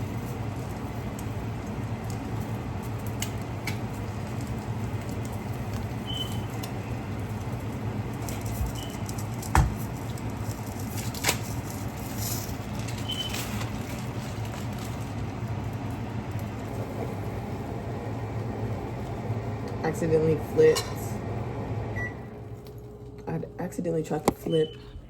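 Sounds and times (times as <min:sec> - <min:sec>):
steady kitchen hum: 0:00.0 - 0:25.0.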